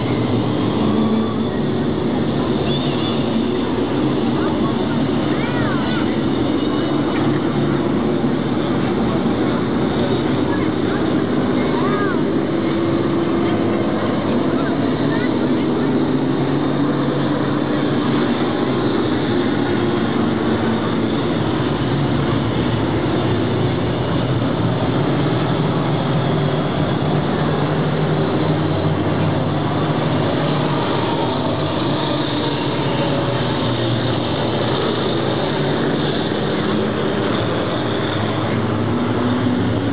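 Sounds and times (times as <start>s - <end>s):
race car engines droning: 0.0s - 39.9s.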